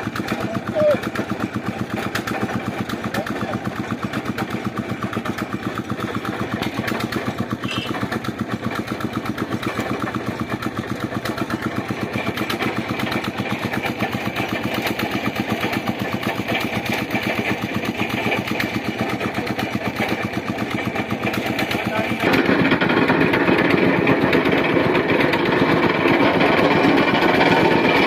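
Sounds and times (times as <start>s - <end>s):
boring machine engine running: 0.0s - 28.0s.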